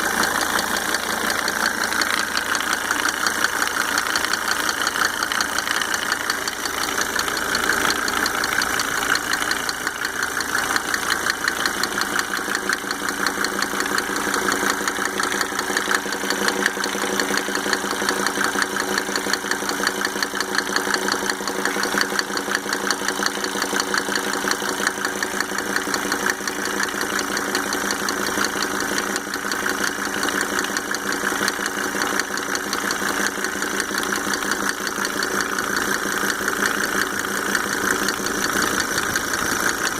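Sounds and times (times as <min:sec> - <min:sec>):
diesel engine idling: 0:00.0 - 0:39.9
fast even ticking: 0:00.0 - 0:39.9.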